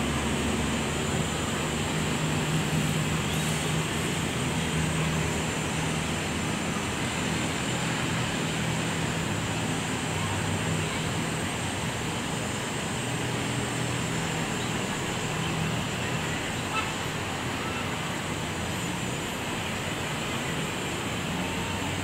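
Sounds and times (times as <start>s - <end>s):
distant road traffic: 0.0s - 22.0s
low engine hum: 0.0s - 22.0s.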